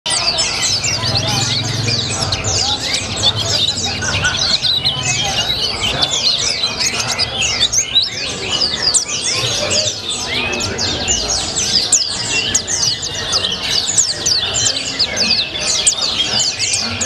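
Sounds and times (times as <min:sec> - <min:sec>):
small bird twittering song: 0:00.1 - 0:17.0.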